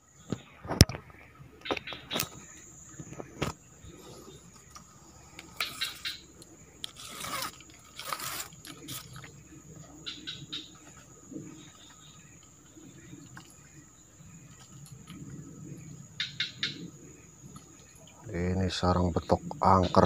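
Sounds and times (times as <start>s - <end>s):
insect drone: 0.0s - 20.0s
leaves and stems rustling: 0.2s - 20.0s.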